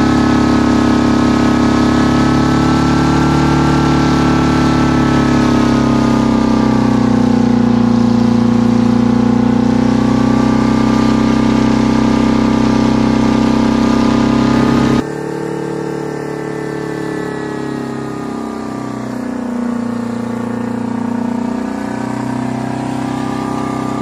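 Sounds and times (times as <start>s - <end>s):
diesel engine overspeeding: 0.0s - 24.0s.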